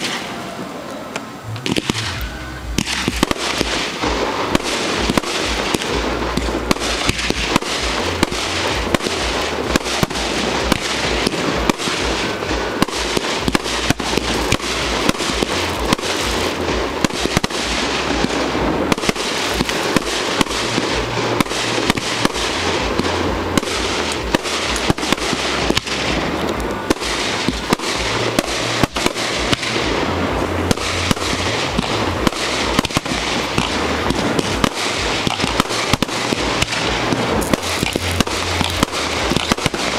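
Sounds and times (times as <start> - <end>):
fireworks bursting: 0.0 - 39.9
fireworks crackling: 0.0 - 39.9
sharp bangs: 0.0 - 39.9.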